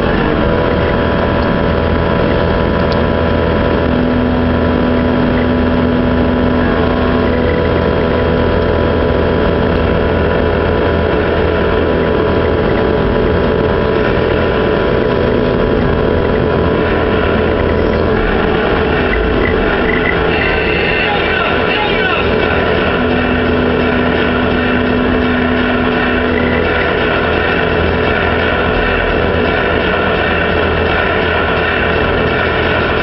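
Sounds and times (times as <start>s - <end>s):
excavator engine and hydraulics: 0.0s - 33.0s
steady high tone: 0.0s - 33.0s.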